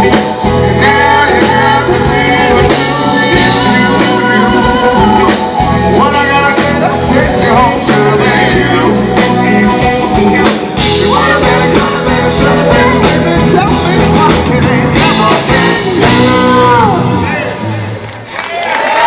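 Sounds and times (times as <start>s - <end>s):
man and woman singing: 0.0s - 17.9s
live rock band playing: 0.0s - 18.3s.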